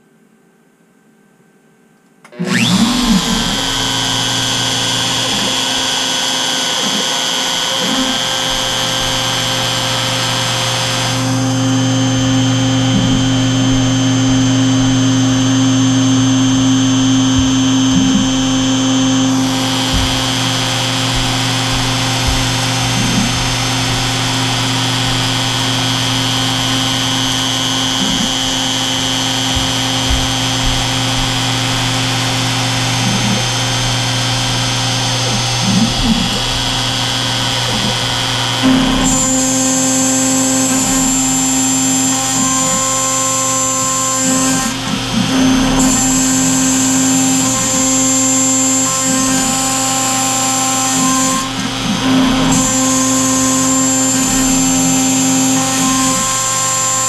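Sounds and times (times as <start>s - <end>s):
end mill cutting plastic: 2.2s - 57.0s
router spindle high whine: 2.2s - 57.0s.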